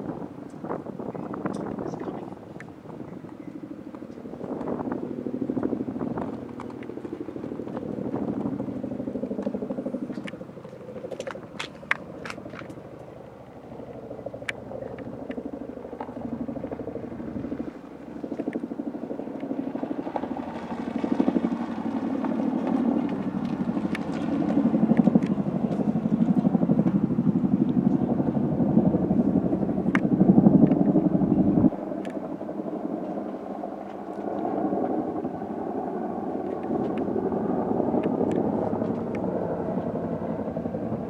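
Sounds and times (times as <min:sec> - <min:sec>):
helicopter rotors chopping: 0:00.0 - 0:41.0.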